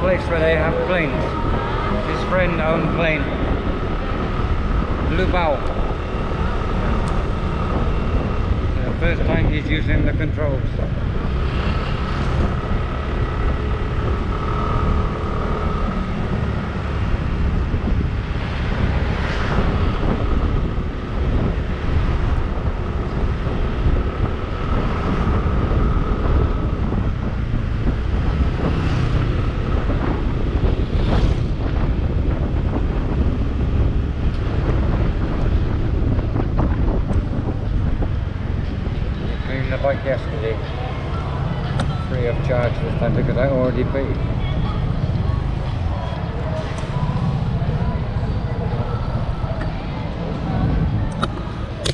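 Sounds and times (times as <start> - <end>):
road noise: 0.0 - 51.9
wind buffeting microphone: 0.0 - 51.9.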